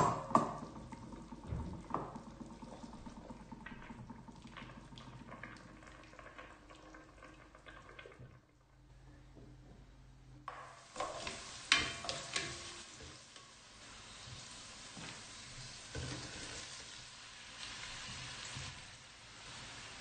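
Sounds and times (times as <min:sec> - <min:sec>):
onions sizzling in a pot: 0:00.0 - 0:07.1, 0:10.5 - 0:20.0.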